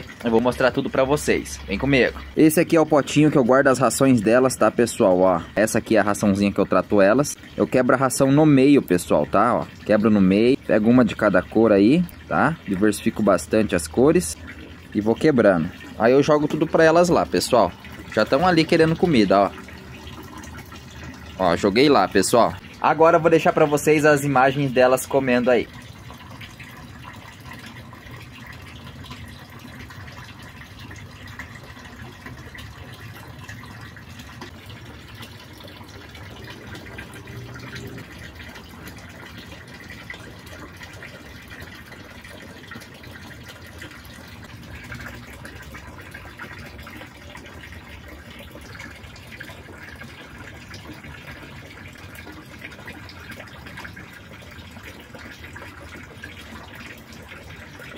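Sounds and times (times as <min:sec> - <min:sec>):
water pouring into pond: 0:00.0 - 0:57.9.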